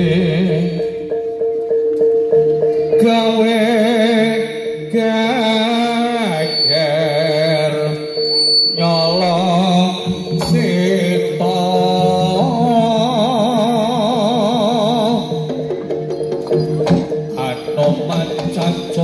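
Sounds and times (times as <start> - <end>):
wavering sliding melody: 0.0 - 19.0.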